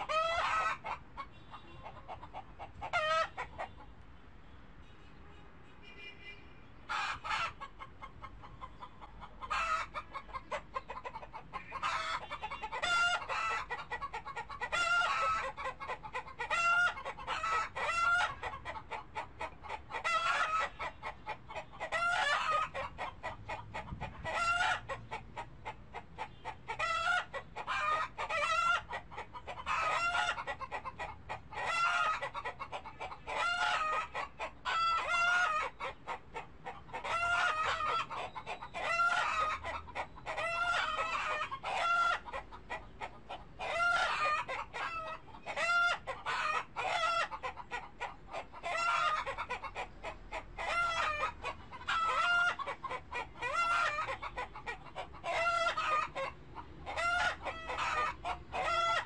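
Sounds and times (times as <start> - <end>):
chickens clucking: 0.0 - 4.0, 6.8 - 59.0.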